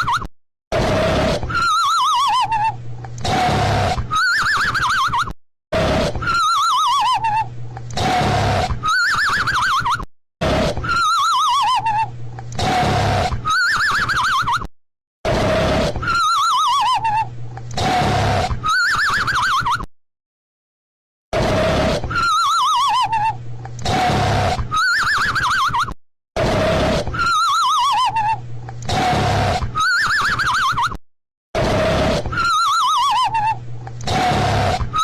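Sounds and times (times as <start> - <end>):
cartoon snoring with whistle: 0.7 - 19.9, 21.3 - 31.0, 31.6 - 35.0.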